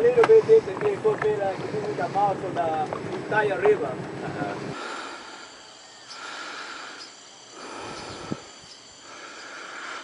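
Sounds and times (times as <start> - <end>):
insects calling: 0.0 - 10.0.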